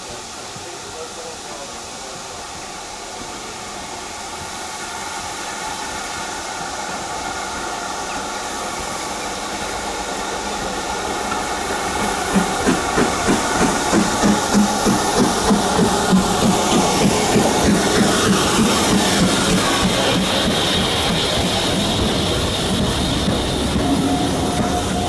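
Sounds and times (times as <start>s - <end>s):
steam locomotive hiss and rumble: 0.0s - 25.0s.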